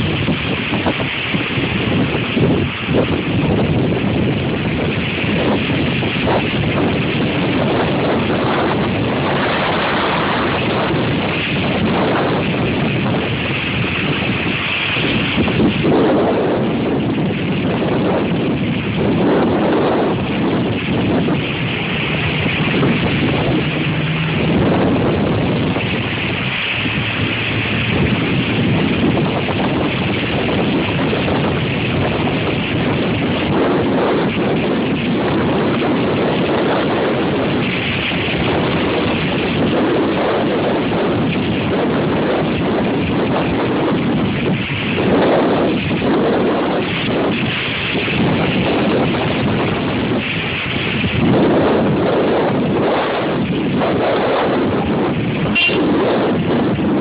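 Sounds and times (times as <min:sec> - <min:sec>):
storm wind on microphone: 0:00.0 - 0:57.0.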